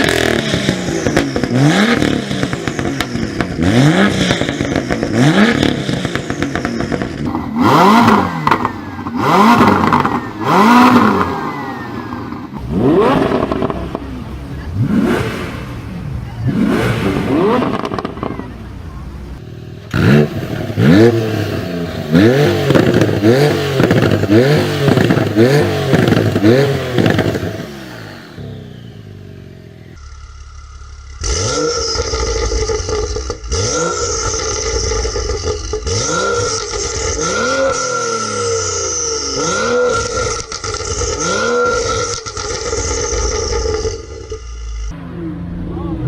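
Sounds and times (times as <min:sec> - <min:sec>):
exhaust crackles and pops: 0:00.0 - 0:45.0
car exhaust revving: 0:00.0 - 0:46.0.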